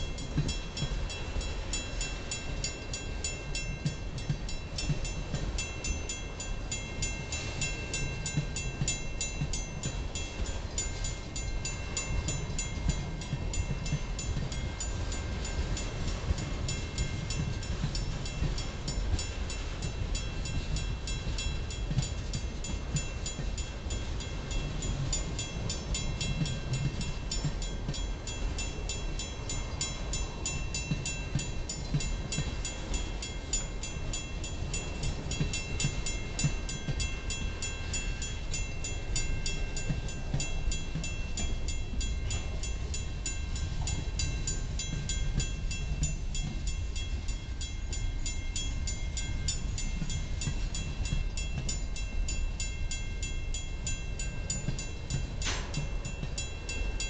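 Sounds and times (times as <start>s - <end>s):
crossing bell ringing: 0.0s - 57.0s
train wheels rumbling on rail: 0.0s - 57.0s.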